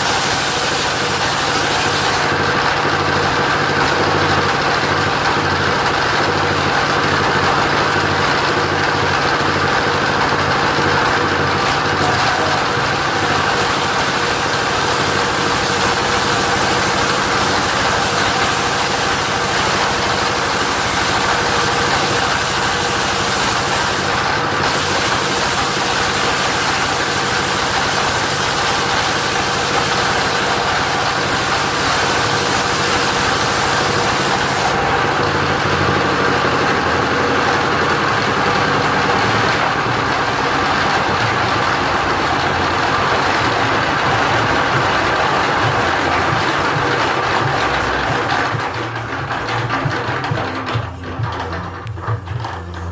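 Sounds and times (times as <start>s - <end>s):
sawmill engine running: 0.0s - 52.9s.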